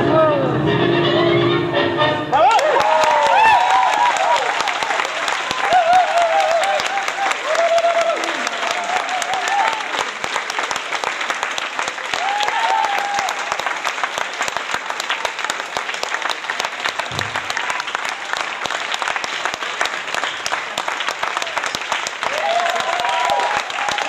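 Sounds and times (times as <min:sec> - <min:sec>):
audience applauding: 0:02.3 - 0:24.0.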